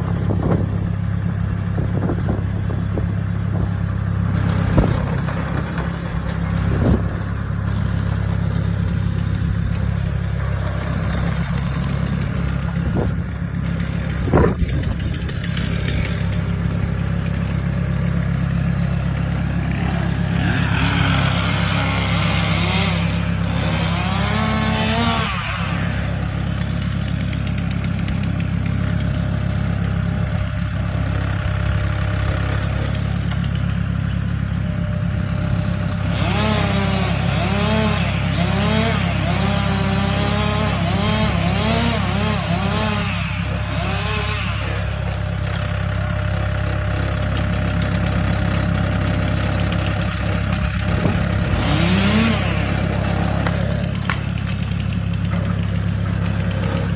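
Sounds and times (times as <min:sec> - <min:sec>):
track loader engine running: 0:00.0 - 0:56.9
chainsaw revving: 0:01.6 - 0:56.9.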